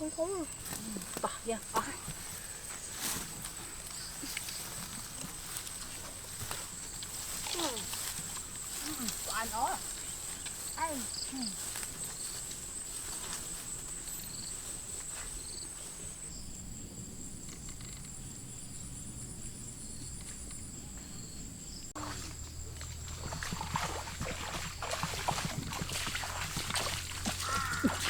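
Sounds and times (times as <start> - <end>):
insects trilling: 0.0 - 28.0
pulsing insect call: 0.0 - 28.0.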